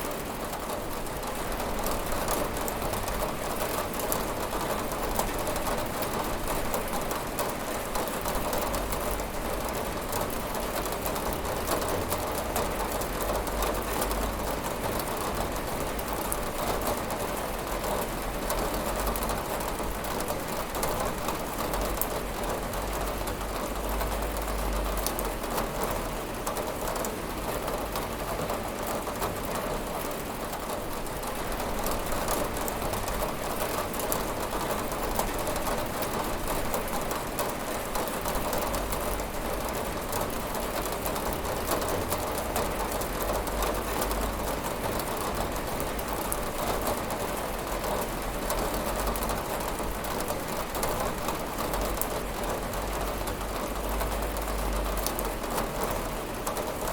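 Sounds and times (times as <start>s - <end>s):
rain falling on a window: 0.0s - 56.9s.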